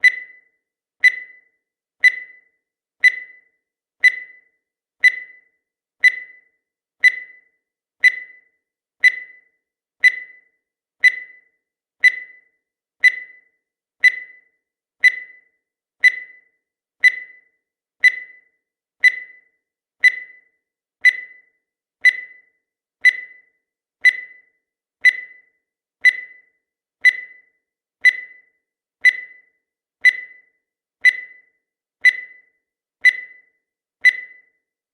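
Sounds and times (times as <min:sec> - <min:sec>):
timer beeping: 0:00.0 - 0:34.8.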